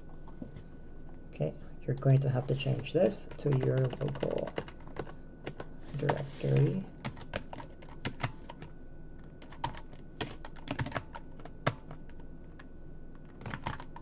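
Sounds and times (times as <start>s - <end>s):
computer keyboard typing: 1.9s - 8.7s, 9.4s - 14.0s.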